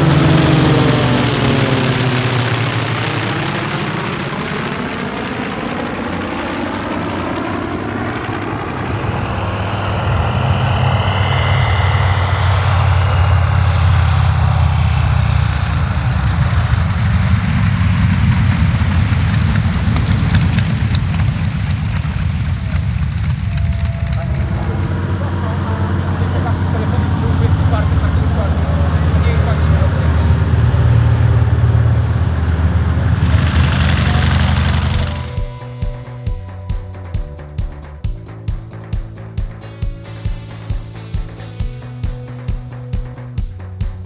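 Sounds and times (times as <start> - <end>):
propeller aircraft passing overhead: 0.0 - 44.0
radial engine low rumble: 0.0 - 44.0.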